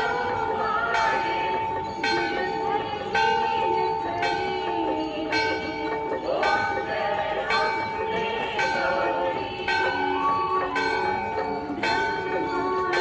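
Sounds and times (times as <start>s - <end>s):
people's voices: 0.0s - 13.0s
temple bell ringing: 0.0s - 13.0s.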